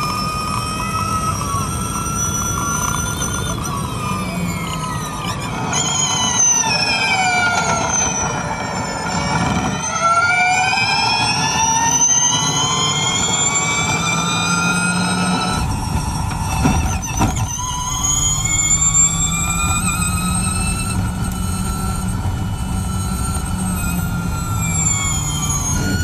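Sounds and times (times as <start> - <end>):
electric race car motor whine: 0.0 - 26.0.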